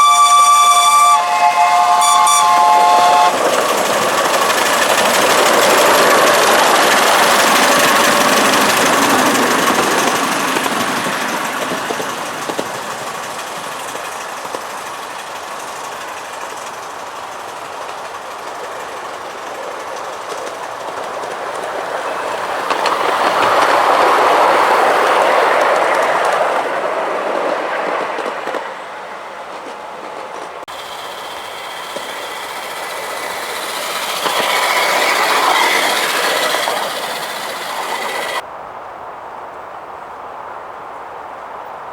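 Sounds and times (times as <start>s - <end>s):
miniature train passing by: 0.0s - 38.5s.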